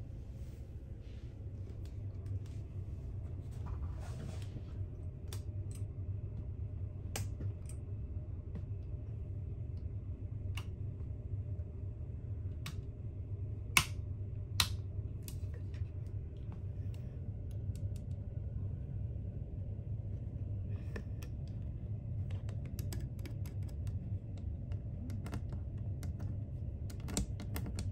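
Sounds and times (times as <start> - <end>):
ship low steady hum: 0.0 - 27.9.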